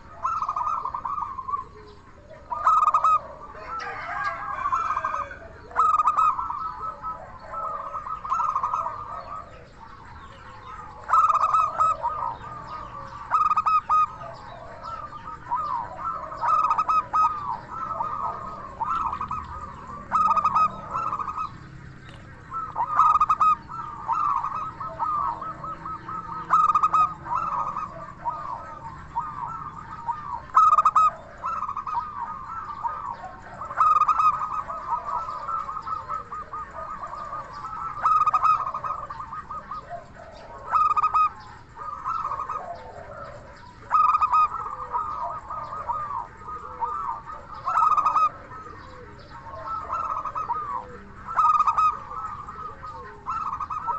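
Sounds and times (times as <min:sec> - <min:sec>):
dove cooing: 0:00.0 - 0:53.9.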